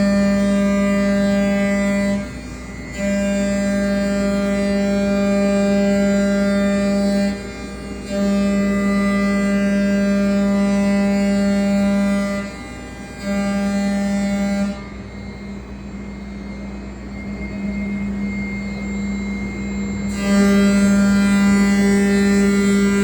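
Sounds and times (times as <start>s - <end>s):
cnc router humming: 0.0s - 23.0s
quiet machine noise: 0.0s - 23.0s.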